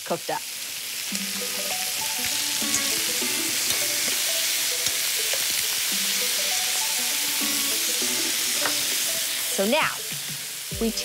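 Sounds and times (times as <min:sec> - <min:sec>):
chicken sizzling in skillet: 0:00.0 - 0:11.0
background music: 0:01.1 - 0:11.0.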